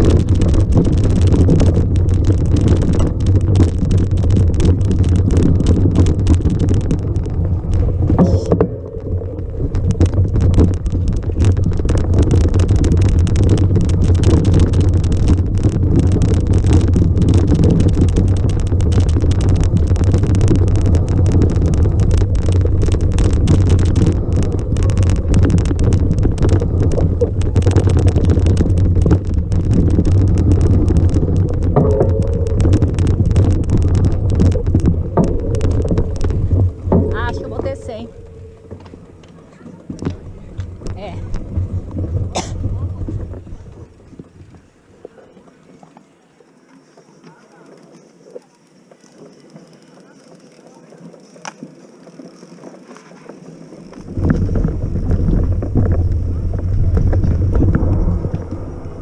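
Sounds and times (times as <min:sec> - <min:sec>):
wind buffeting microphone: 0:00.0 - 0:44.8, 0:53.9 - 0:59.0.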